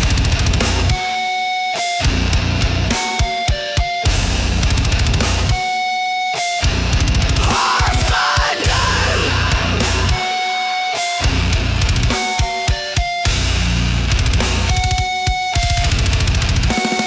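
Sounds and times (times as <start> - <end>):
bass guitar: 0.0 - 1.2, 2.0 - 3.3, 4.0 - 5.8, 6.6 - 17.0
distorted guitars: 0.0 - 17.0
drum kit: 0.0 - 17.0.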